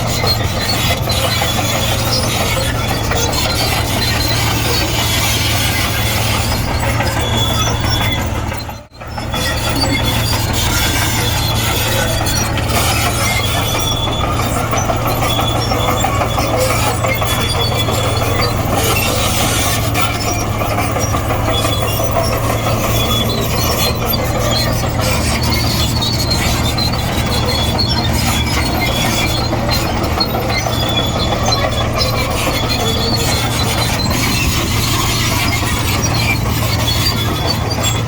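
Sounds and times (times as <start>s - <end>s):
diesel engine running under load: 0.0s - 38.0s
steel tracks clattering and squealing: 0.0s - 38.0s.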